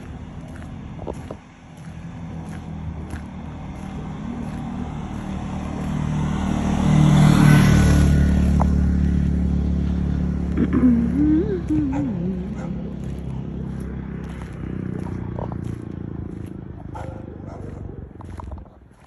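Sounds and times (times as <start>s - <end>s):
car passing by: 0.0s - 19.0s.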